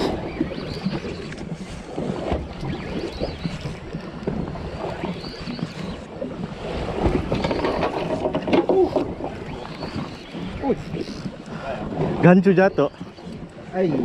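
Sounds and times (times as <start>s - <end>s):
water slapping against boat hull: 0.0s - 14.0s.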